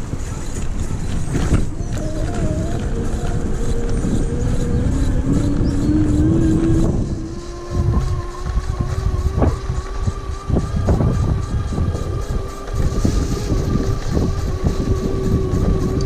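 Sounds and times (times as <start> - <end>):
electric motor whining: 0.0 - 16.0
rumble of wind and tyres: 0.0 - 16.0.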